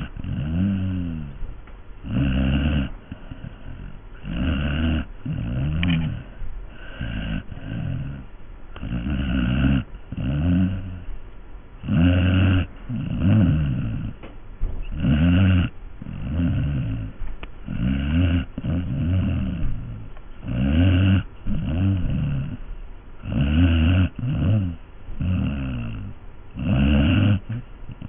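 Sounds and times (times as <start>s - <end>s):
pet snoring: 0.0s - 1.4s, 2.0s - 11.2s, 11.8s - 28.0s.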